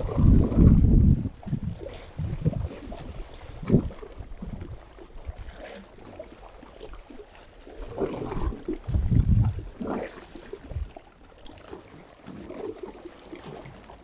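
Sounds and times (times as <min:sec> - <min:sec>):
water sloshing against rocks: 0:00.0 - 0:14.0.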